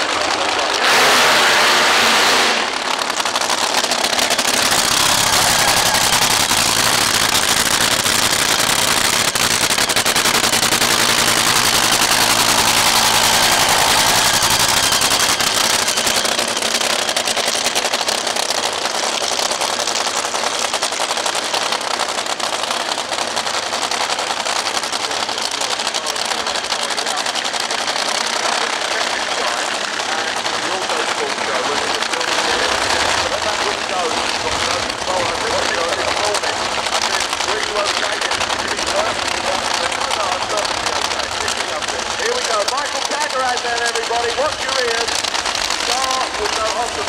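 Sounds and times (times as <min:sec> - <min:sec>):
dragster engine crackling: 0:00.0 - 0:47.0.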